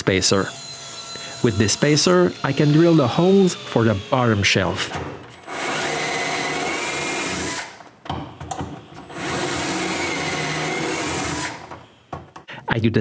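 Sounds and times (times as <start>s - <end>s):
electric drill boring: 0.1s - 7.9s, 9.0s - 12.0s.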